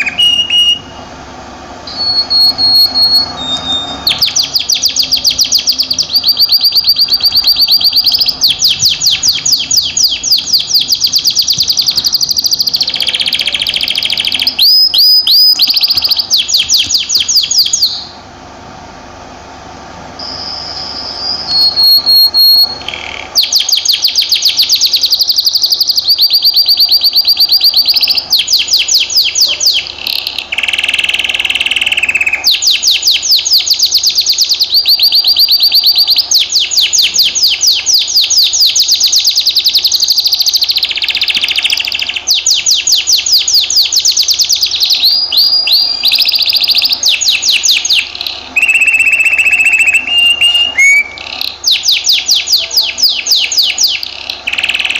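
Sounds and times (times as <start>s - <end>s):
canary singing: 0.0s - 18.3s, 19.6s - 54.9s.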